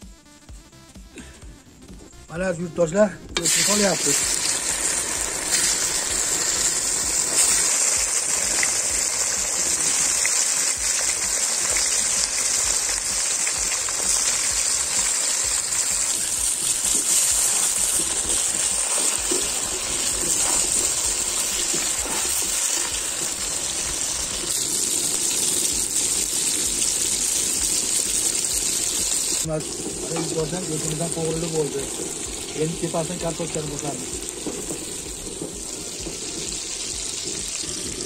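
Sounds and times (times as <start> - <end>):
meat sizzling in hot oil: 3.4 - 38.0.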